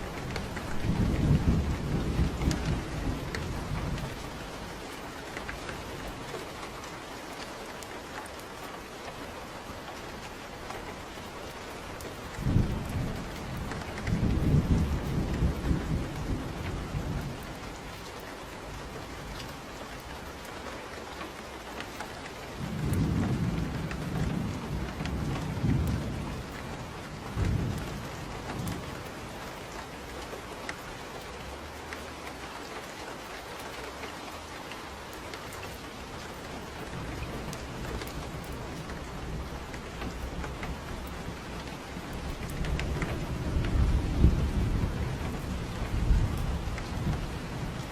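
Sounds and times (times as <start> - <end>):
thunder rumbling: 0.0 - 6.9, 9.1 - 19.9, 22.5 - 31.8, 34.2 - 47.9
steady rain falling: 0.0 - 47.9.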